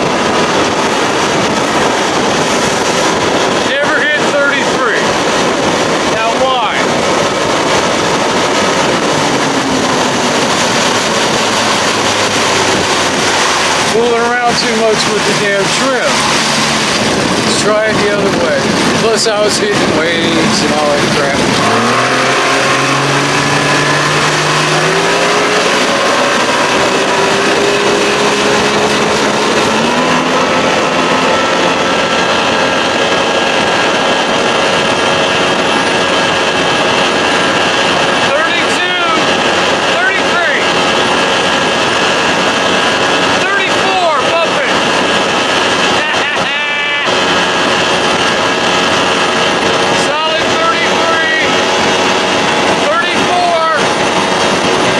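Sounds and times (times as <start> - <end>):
outboard motor running: 0.0 - 54.9
water noise: 0.0 - 54.9
wind noise: 0.0 - 54.9.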